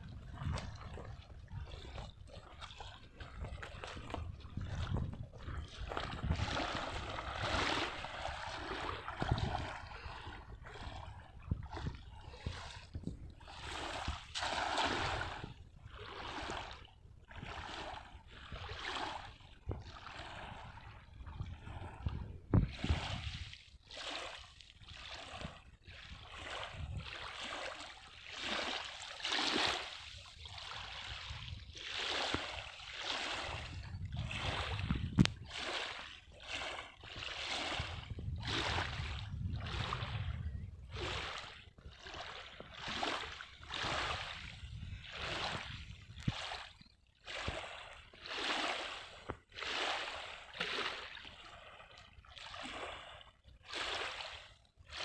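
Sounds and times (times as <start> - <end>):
wind rumble on microphone: 0.0 - 27.4, 29.8 - 47.8
small waves lapping on stony shore: 0.0 - 55.0.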